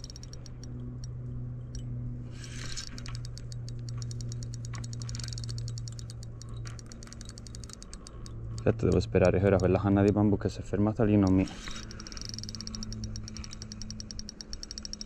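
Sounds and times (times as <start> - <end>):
spinning reel ticking rapidly: 0.0 - 1.1, 2.3 - 10.5, 11.1 - 15.0.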